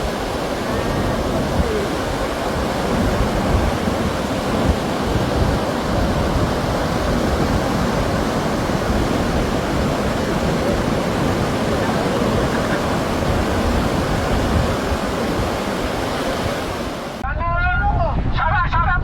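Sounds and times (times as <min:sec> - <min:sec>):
sea waves breaking on shore: 0:00.0 - 0:17.2
wind buffeting microphone: 0:00.0 - 0:19.0.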